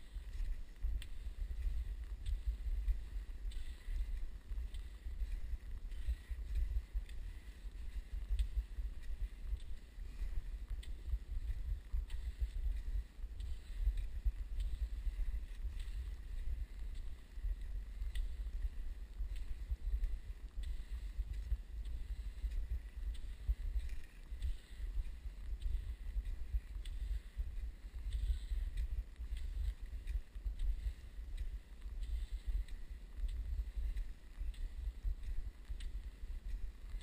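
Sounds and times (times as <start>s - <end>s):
ski strides and pole plants: 0.0s - 37.0s.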